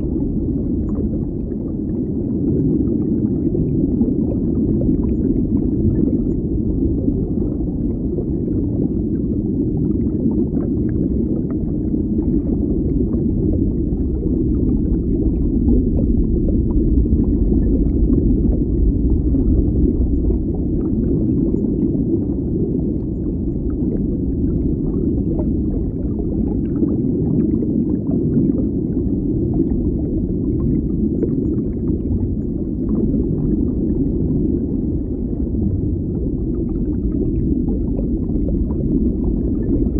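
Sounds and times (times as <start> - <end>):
faint ticks and crackles: 0.0 - 39.9
underwater rumble of moving water: 0.0 - 39.9.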